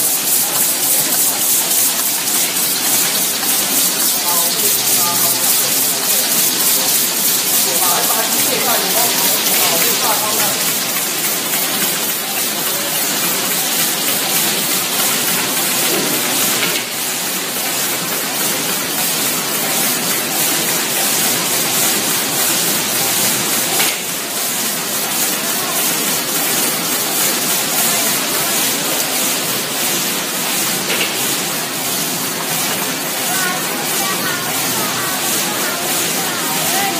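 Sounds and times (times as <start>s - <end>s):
fast fine rattle: 0.0s - 36.9s
machine belts and rollers rushing: 0.0s - 36.9s.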